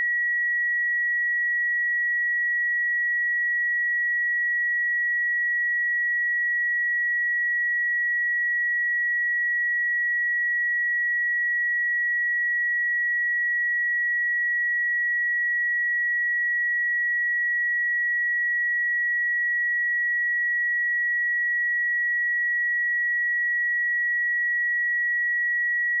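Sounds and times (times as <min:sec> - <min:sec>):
high-pitched sine test tone: 0:00.0 - 0:26.0.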